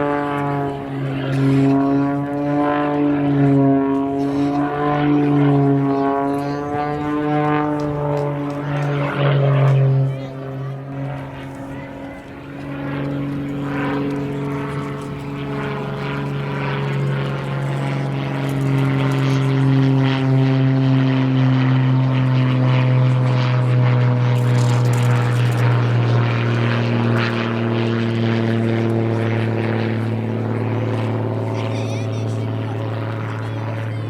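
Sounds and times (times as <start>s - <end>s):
propeller airplane engine droning: 0.0s - 34.0s.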